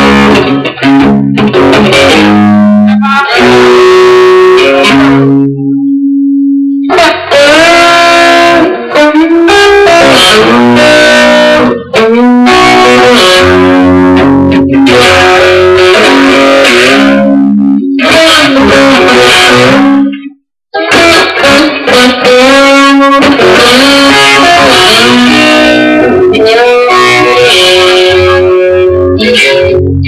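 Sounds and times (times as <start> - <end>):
electric guitar playing chords: 0.0 - 30.0.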